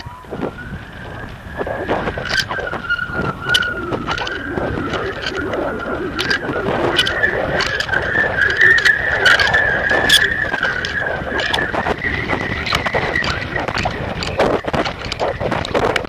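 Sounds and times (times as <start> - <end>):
high whine: 0.0 - 16.0
wind buffeting camera: 0.0 - 16.0
camera rattling clicks and knocks: 1.9 - 16.0.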